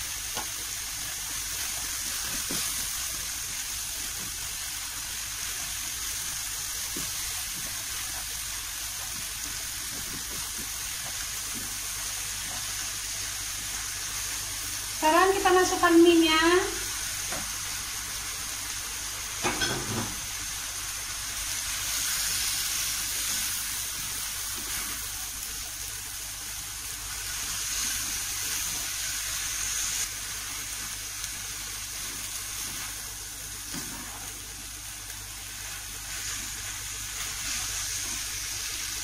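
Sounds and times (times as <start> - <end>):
noodles sizzling in oil: 0.0 - 39.0.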